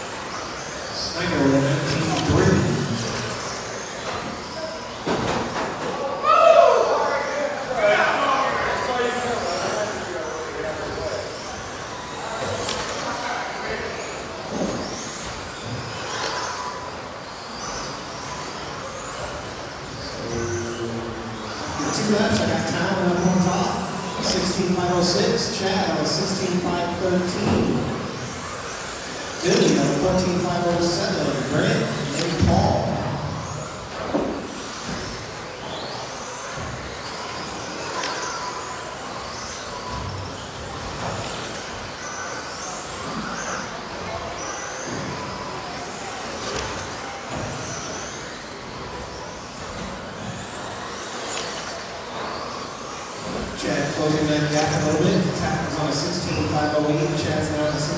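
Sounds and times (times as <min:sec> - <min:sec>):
steady hall hum: 0:00.0 - 0:57.9
electric motor whines: 0:08.0 - 0:57.9.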